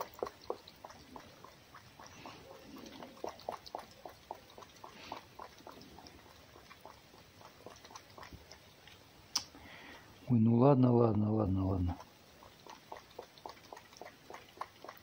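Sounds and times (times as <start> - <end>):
fox smacking and lapping: 0.0 - 9.6, 11.5 - 15.0.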